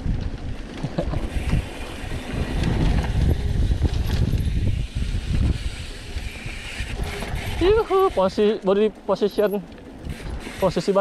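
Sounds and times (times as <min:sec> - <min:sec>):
bike clicks and rattles: 0:00.0 - 0:11.0
wind buffeting microphone: 0:00.0 - 0:11.0.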